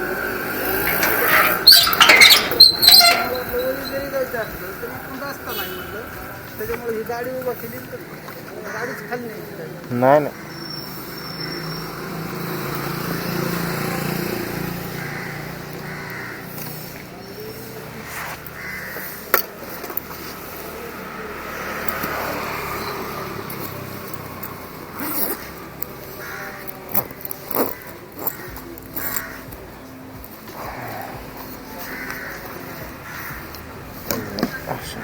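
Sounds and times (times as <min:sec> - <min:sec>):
outdoor street noise: 0:00.0 - 0:35.0.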